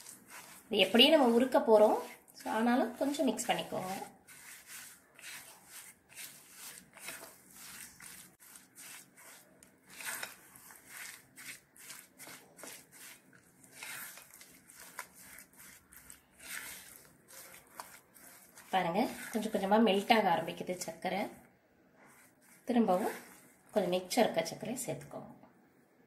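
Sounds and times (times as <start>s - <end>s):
spatula scraping in glass bowl: 0.0s - 20.9s, 22.0s - 24.4s.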